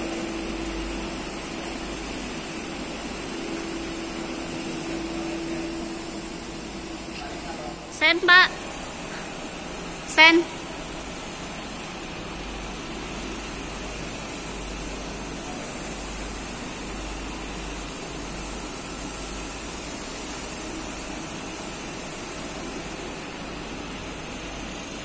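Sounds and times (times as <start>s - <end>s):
steady mechanical hum with hiss: 0.0s - 25.0s.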